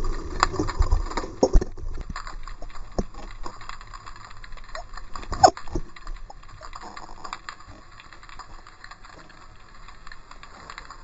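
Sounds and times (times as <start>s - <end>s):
low steady hiss: 0.0s - 11.0s
small underwater clicks: 0.0s - 11.0s.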